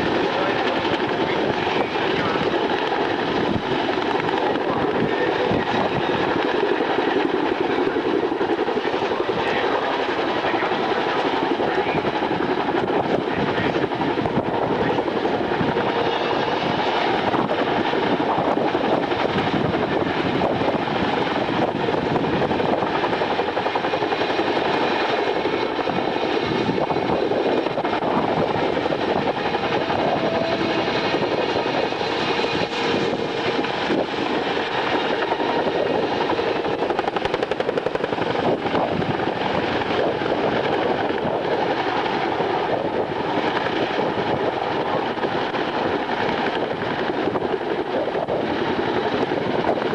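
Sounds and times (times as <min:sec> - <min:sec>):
aircraft engine noise: 0:00.0 - 0:49.9.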